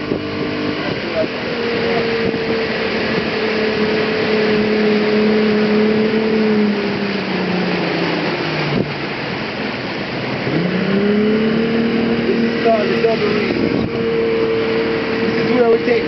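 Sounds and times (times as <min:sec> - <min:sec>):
outboard engine running: 0:00.0 - 0:16.0
rush of wind and water: 0:00.0 - 0:16.0.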